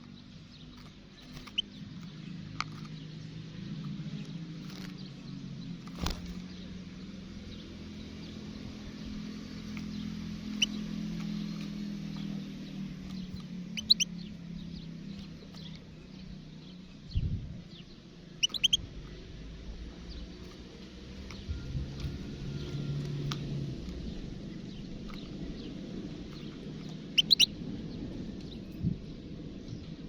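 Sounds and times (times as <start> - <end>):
steady low hum: 0.0 - 30.0
goldfinch chirps: 0.4 - 3.3, 4.6 - 17.0, 17.7 - 19.2, 20.0 - 28.7.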